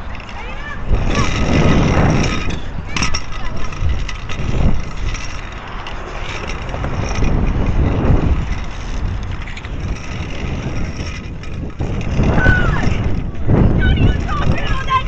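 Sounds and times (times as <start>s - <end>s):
small wheels rolling over concrete: 0.0s - 15.0s.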